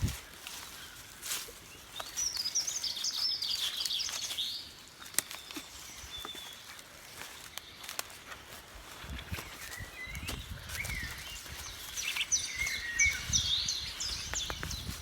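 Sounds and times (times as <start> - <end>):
songbird twittering chirps: 0.2 - 15.0.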